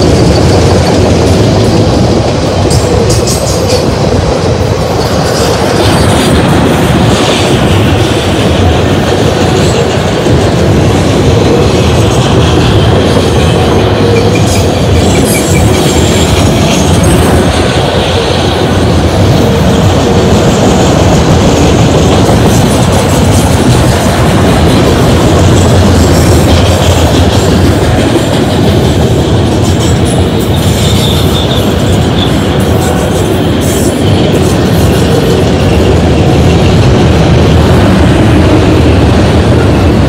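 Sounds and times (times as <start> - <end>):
freight train wheels clattering: 0.0 - 40.0.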